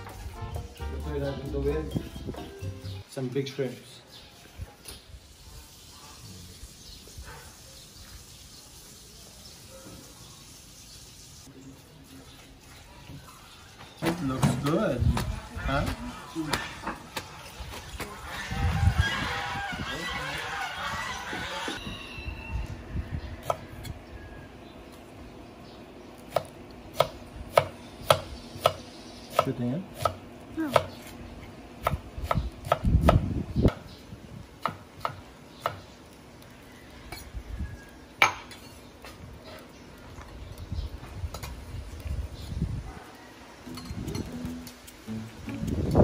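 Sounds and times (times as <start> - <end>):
faint outdoor ambience: 0.0 - 46.0.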